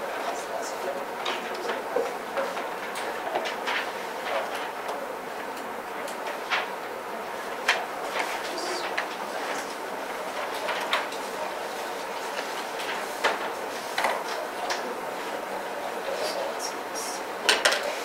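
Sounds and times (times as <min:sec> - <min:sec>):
paper sheets rustling: 0:00.0 - 0:17.1.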